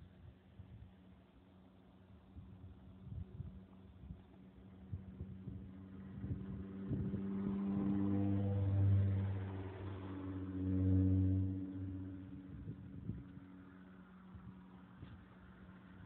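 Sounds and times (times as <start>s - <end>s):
vehicle engine running: 2.6s - 16.0s.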